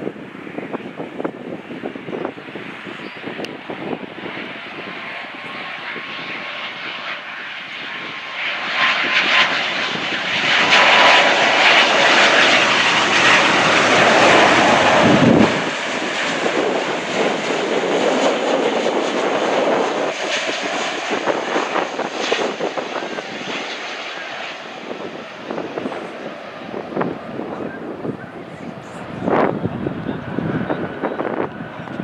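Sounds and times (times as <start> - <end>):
jet airliner passing close: 0.0 - 32.0.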